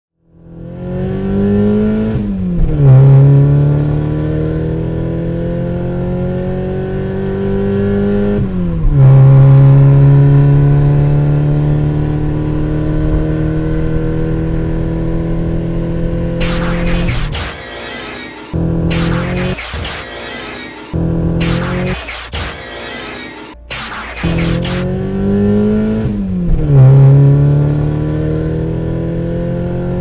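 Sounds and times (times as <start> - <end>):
car engine accelerating: 0.2 - 17.4, 18.5 - 19.6, 20.9 - 22.0, 23.8 - 30.0.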